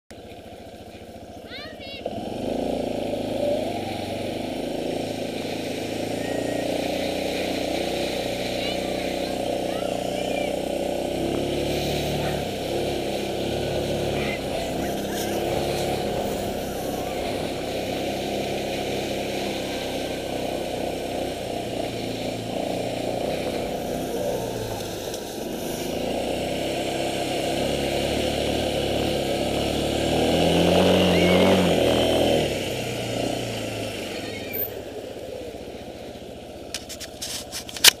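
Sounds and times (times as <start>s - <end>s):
towing vehicle engine revving: 0.1s - 38.0s.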